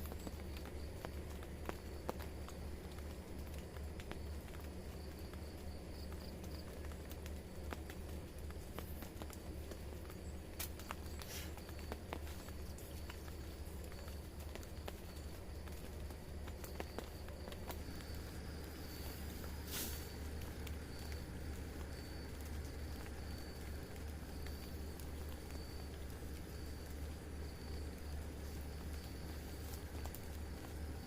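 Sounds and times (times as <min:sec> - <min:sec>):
low rumble of rain: 0:00.0 - 0:31.0
raindrops pattering and dripping: 0:00.0 - 0:31.0.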